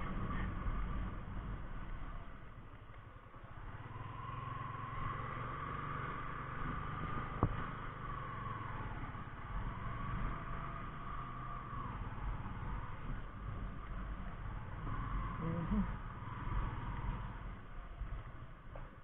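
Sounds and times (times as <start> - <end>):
motorcycle engine: 0.0 - 19.0
road noise: 0.0 - 19.0.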